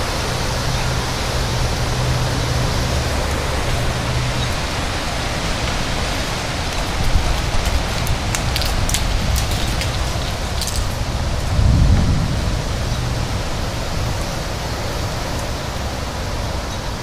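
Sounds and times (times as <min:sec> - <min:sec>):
strong wind rushing: 0:00.0 - 0:17.0.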